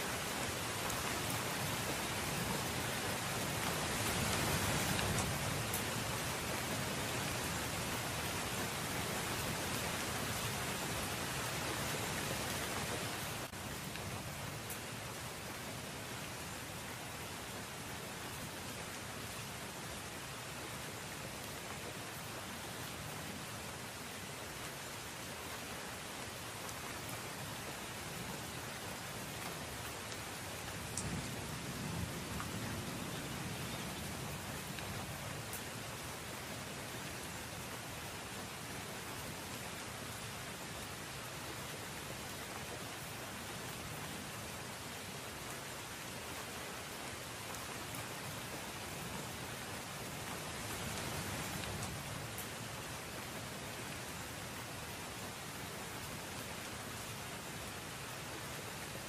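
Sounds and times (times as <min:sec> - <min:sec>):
rain-like hiss: 0:00.0 - 0:59.0.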